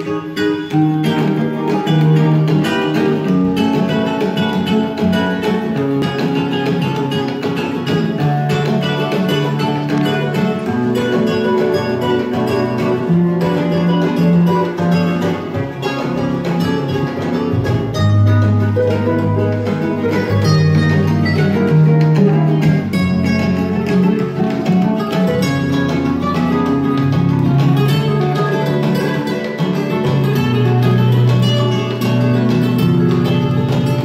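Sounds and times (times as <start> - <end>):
plucked guitar music from vinyl: 0.0 - 34.0.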